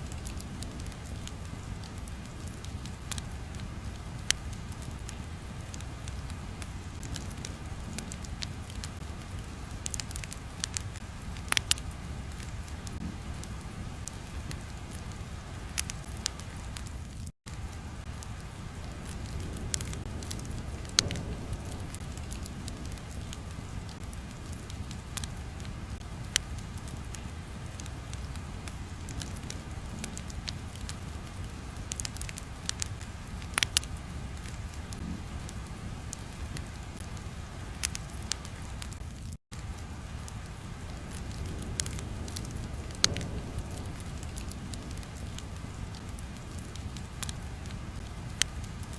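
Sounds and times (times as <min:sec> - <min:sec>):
fire popping and snapping: 0:00.0 - 0:48.9
fire rumbling: 0:00.0 - 0:48.9.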